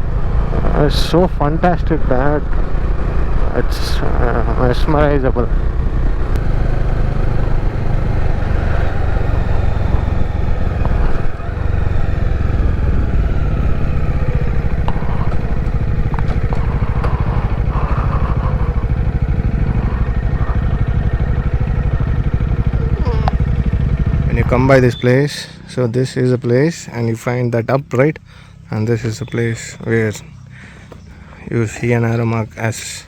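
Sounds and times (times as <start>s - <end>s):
motorcycle engine running: 0.0s - 26.2s, 28.2s - 32.9s.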